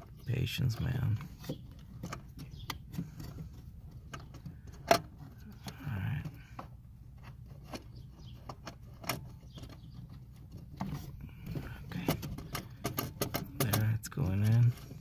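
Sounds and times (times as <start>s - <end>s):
plastic and metal clicks and rattles: 0.8s - 15.0s.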